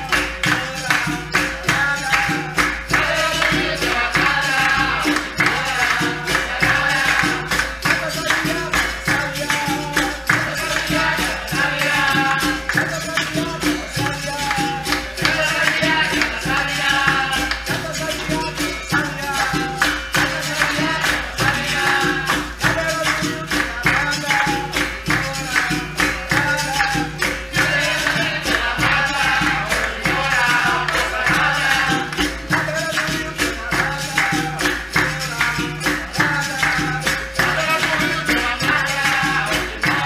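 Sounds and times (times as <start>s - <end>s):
hand percussion rhythm: 0.0s - 40.0s
jingling: 0.0s - 40.0s
person singing: 0.0s - 40.0s.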